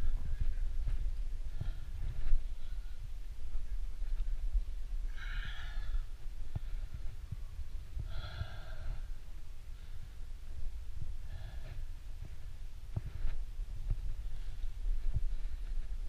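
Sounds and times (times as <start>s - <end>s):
person breathing hard: 0.0s - 3.4s, 5.0s - 16.0s
low microphone rumble: 0.0s - 16.0s.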